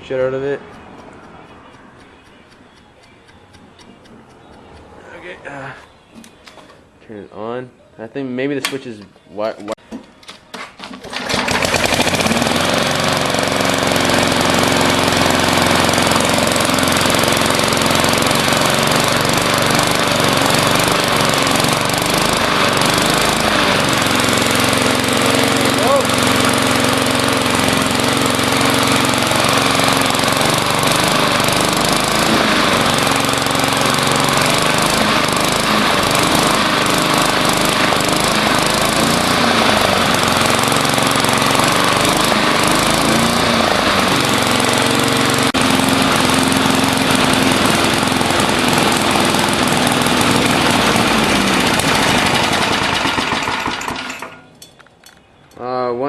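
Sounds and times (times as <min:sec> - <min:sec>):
lawn mower engine running: 0:00.0 - 0:05.4, 0:10.8 - 0:55.2.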